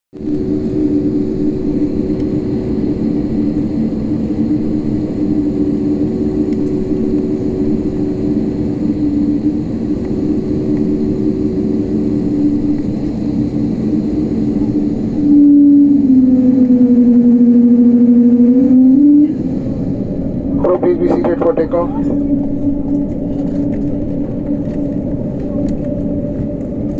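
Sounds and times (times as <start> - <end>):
airliner cabin engine rumble: 0.2 - 26.9.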